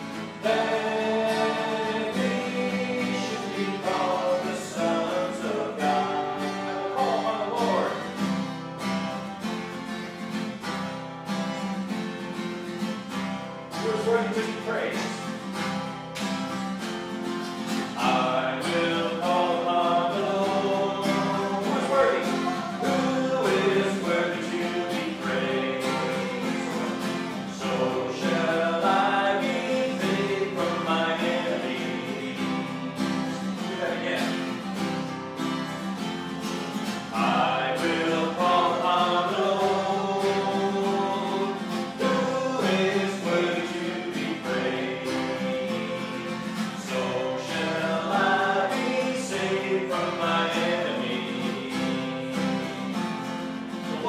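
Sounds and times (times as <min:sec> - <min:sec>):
people singing: 0:00.0 - 0:08.3, 0:17.7 - 0:36.0, 0:36.7 - 0:54.0
acoustic guitar: 0:00.0 - 0:54.0.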